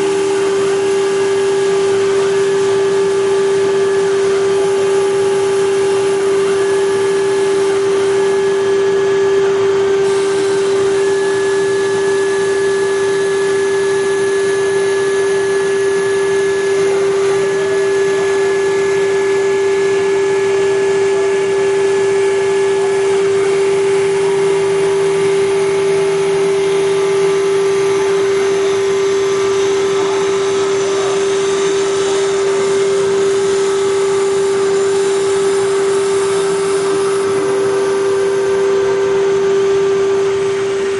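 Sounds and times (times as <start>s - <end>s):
high machine tones: 0.0s - 40.9s
wood-turning lathe humming: 0.0s - 40.9s.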